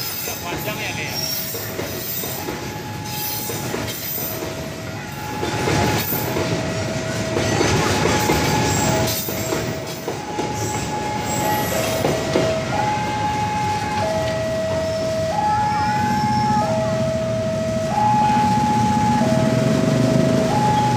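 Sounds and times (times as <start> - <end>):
freight train rumble and rail clatter: 0.0 - 20.9
level crossing two-tone alarm: 2.4 - 20.9.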